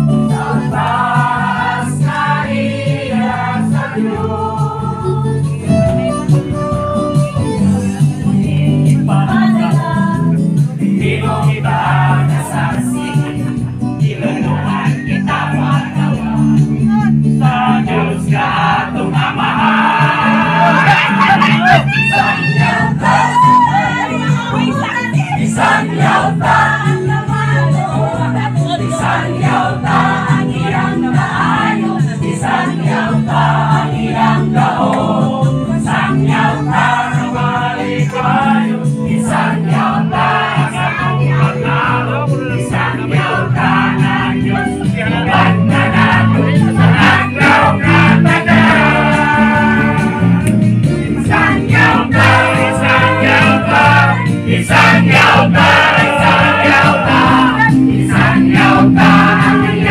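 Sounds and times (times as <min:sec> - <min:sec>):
song with singing voices: 0:00.0 - 0:59.9.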